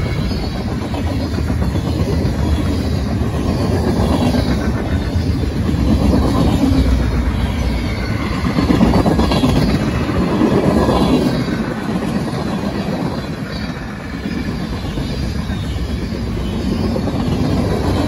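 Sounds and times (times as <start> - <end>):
freight train wheels rumbling and rattling: 0.0 - 18.0.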